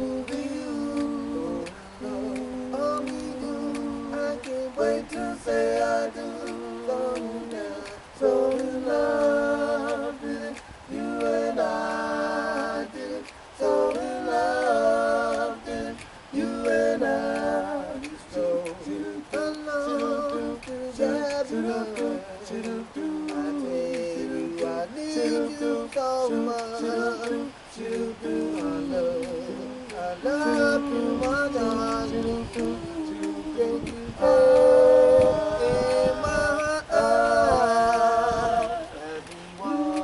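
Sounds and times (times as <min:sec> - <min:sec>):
male voices singing in harmony: 0:00.0 - 0:40.0.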